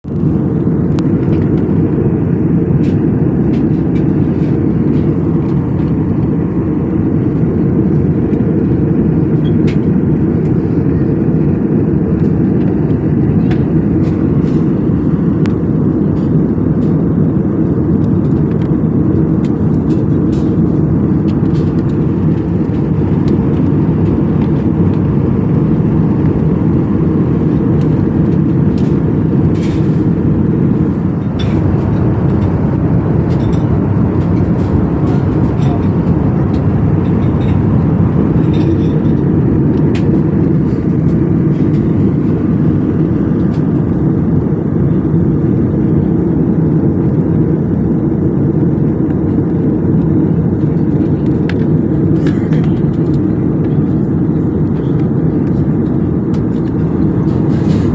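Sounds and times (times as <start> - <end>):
airliner cabin engine rumble: 0.0 - 57.9.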